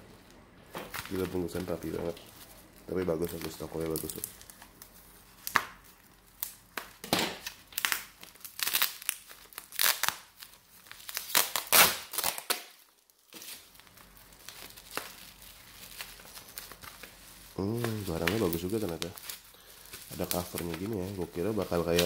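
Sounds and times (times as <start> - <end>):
bubble wrap crinkling and tearing: 0.0 - 22.0.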